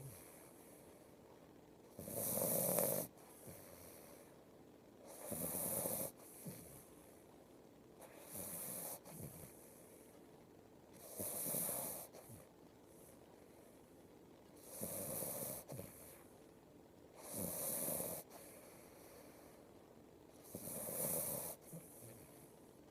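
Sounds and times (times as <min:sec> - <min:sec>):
quiet breathing: 0:00.0 - 0:22.9.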